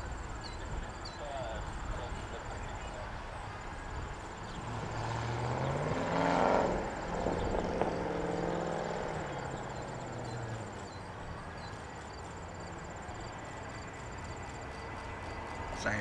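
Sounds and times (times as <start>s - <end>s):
crickets chirping: 0.0s - 16.0s
vehicle passing by: 0.7s - 16.0s.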